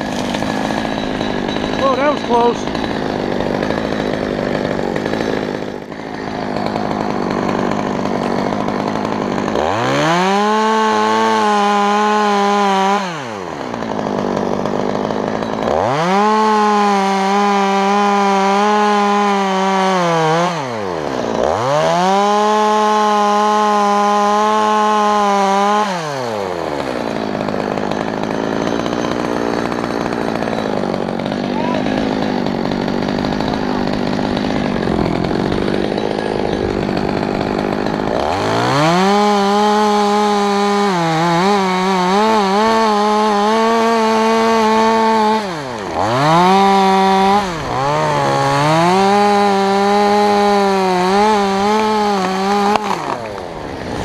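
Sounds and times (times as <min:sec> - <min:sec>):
chainsaw revving while cutting wood: 0:00.0 - 0:54.0.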